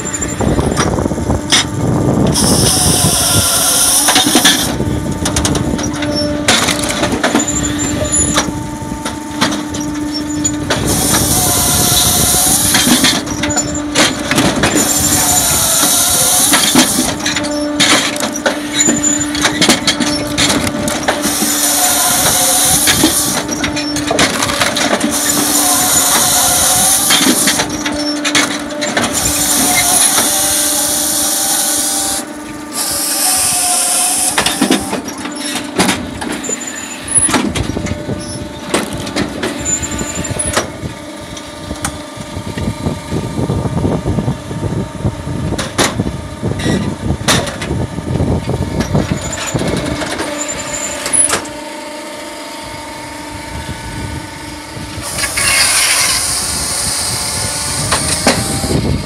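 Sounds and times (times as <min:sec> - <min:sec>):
saw cutting logs: 0:00.0 - 0:42.0, 0:49.0 - 0:53.1, 0:54.9 - 0:59.0
machine hum: 0:00.0 - 0:59.0.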